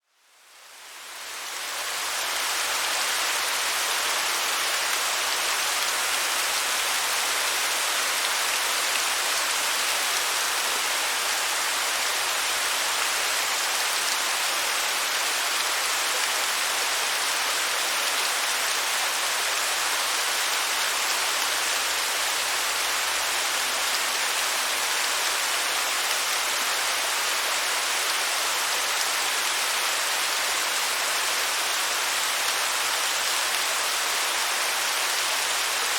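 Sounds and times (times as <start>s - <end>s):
rush of falling water: 0.0s - 35.9s.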